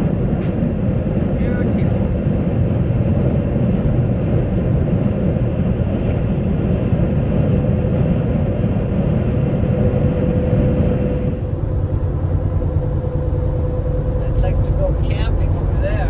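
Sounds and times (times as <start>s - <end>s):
truck engine and tyre drone: 0.0s - 16.0s.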